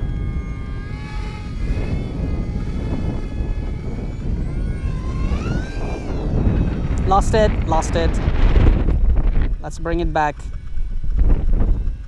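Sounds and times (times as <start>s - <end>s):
rc glider motor whining: 0.0s - 12.0s
wind rumble on microphone: 0.0s - 12.0s.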